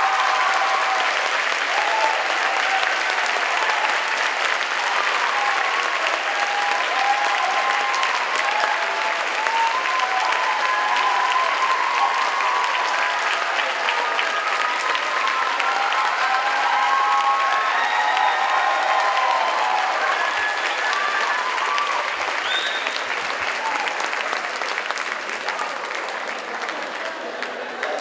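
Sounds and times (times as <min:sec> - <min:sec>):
audience applauding: 0:00.0 - 0:28.0
people cheering: 0:00.0 - 0:28.0.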